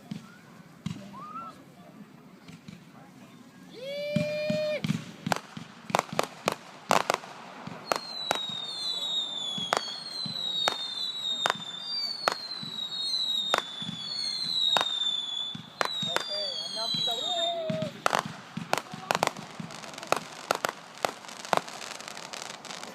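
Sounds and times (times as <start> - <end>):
firework bangs: 4.0 - 22.9
whistling firework shells: 4.5 - 22.9.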